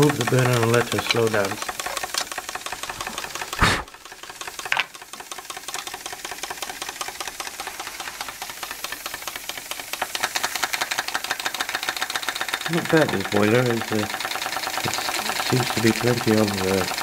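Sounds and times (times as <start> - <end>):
toy steam engine chuffing: 0.0 - 17.0.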